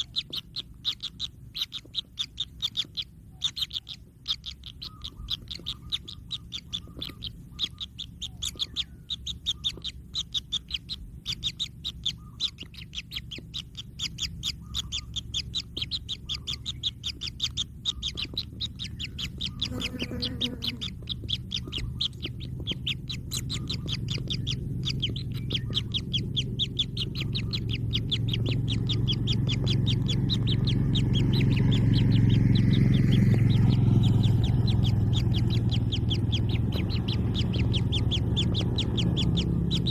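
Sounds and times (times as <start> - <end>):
chicks chirping: 0.0 - 39.9
low hum: 0.0 - 39.9.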